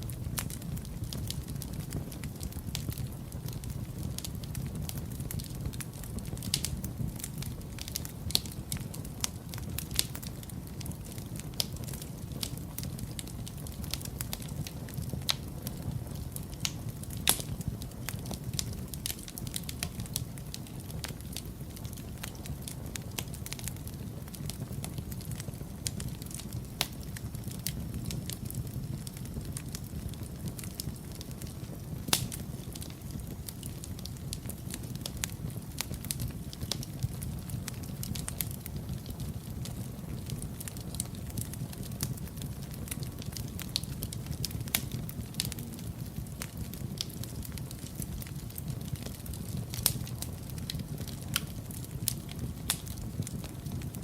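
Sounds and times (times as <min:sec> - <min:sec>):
wood fire burning: 0:00.0 - 0:54.0.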